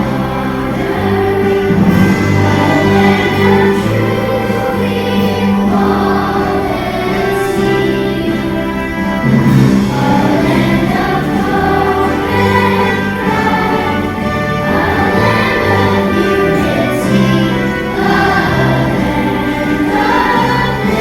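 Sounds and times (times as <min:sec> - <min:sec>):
choir singing: 0:00.0 - 0:21.0
musical accompaniment: 0:00.0 - 0:21.0.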